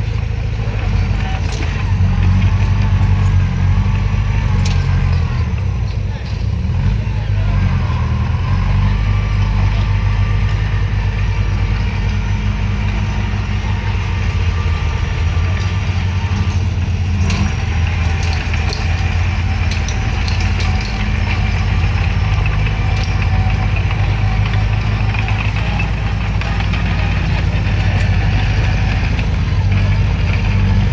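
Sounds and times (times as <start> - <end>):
bulldozer diesel engine droning: 0.0 - 30.9.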